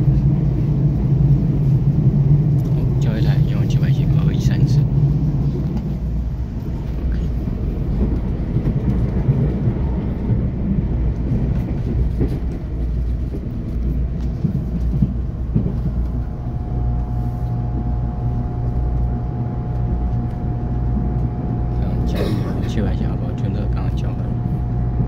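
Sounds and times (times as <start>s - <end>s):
train passing: 0.0s - 25.0s
train wheels rumbling on rail: 0.0s - 25.0s.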